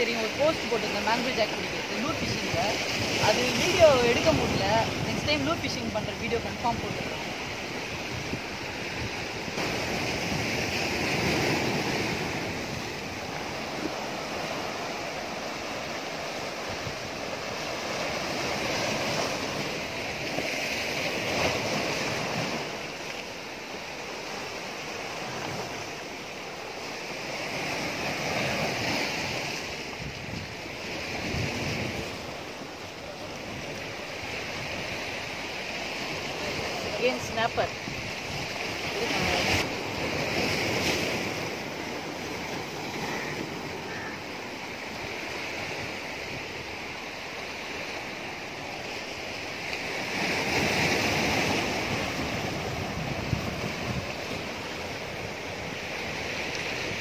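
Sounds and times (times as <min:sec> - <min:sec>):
surf washing over rocks: 0:00.0 - 0:57.0.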